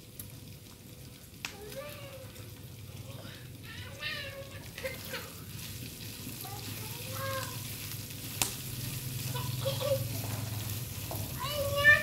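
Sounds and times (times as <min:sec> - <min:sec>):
pork sizzling in a frying pan: 0:00.0 - 0:12.0.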